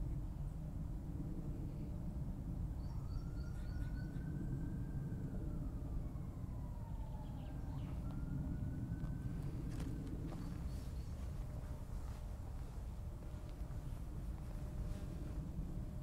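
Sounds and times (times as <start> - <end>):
steady low rumble: 0.0 - 16.0
distant siren wailing: 2.3 - 16.0.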